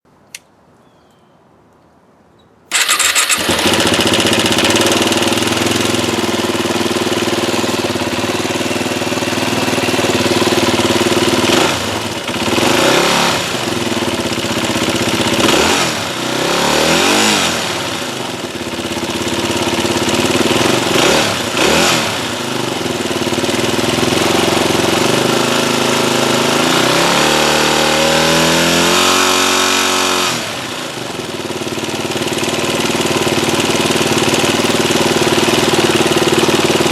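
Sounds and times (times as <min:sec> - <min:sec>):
engine rattle: 0:02.7 - 0:36.9
motorcycle engine starting and idling: 0:02.7 - 0:36.9.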